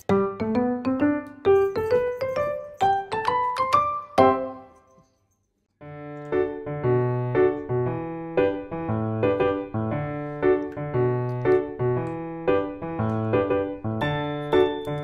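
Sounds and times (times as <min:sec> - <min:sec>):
piano music: 0:00.0 - 0:04.9, 0:05.8 - 0:15.0.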